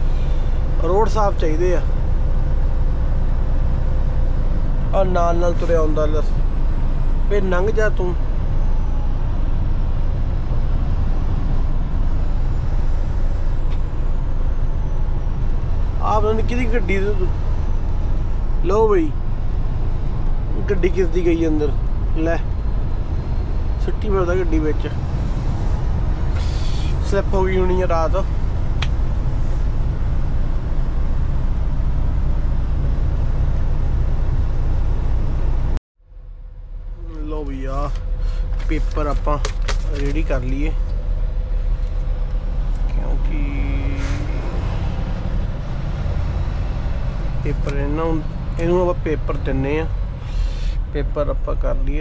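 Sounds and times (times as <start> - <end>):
road noise: 0.0 - 52.0
truck diesel engine rumble: 0.0 - 52.0.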